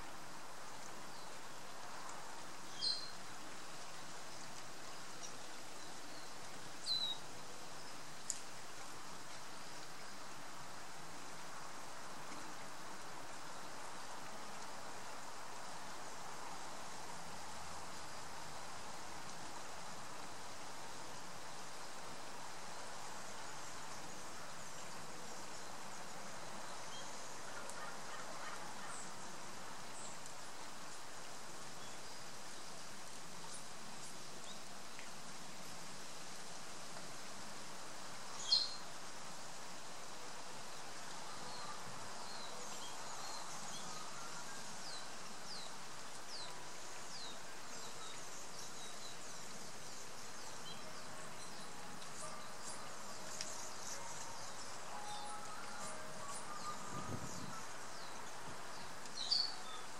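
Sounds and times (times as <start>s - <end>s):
outdoor background hiss: 0.0s - 59.9s.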